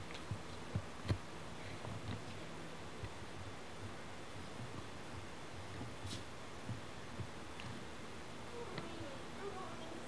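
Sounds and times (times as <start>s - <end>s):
tape hiss: 0.0s - 10.0s.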